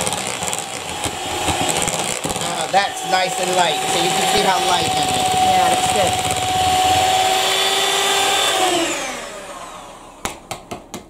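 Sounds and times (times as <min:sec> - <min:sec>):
electric hand mixer whine: 0:00.0 - 0:11.0.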